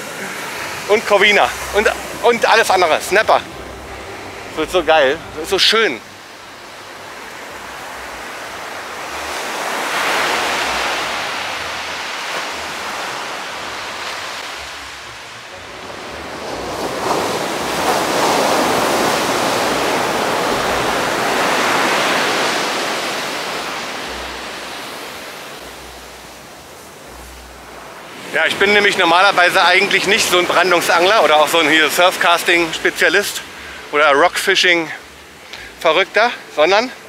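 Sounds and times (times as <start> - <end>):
ocean waves breaking on rocks: 0.0 - 37.0.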